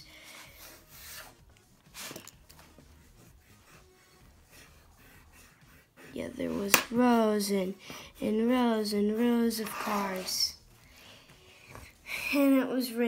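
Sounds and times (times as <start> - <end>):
pencil scratching on paper: 0.0 - 12.7
hand rubbing on paper: 0.2 - 10.8.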